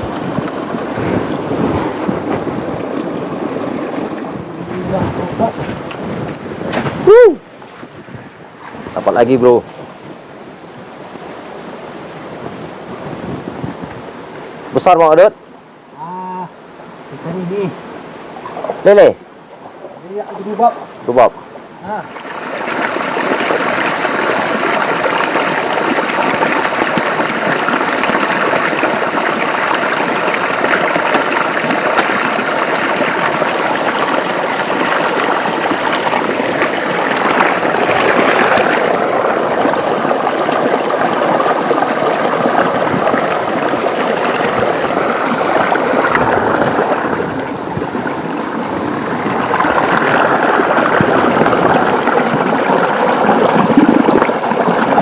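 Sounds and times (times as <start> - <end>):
river rushing over rocks: 0.0 - 15.9, 20.8 - 55.0.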